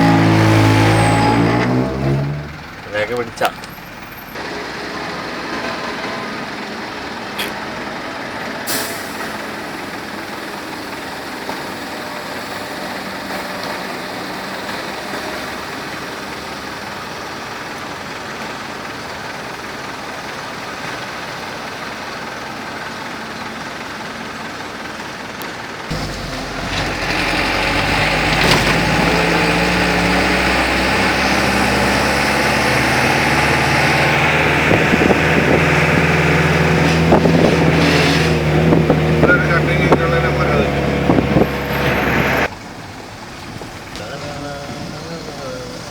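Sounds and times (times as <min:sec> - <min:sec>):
low engine hum: 0:00.0 - 0:20.2, 0:25.7 - 0:45.9
traffic hiss on wet road: 0:03.4 - 0:35.1, 0:39.5 - 0:45.9.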